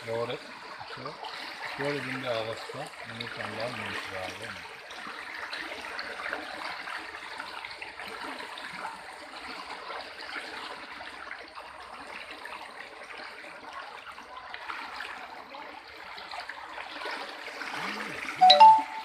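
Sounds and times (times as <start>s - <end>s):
floodwater rushing over road: 0.0s - 18.8s.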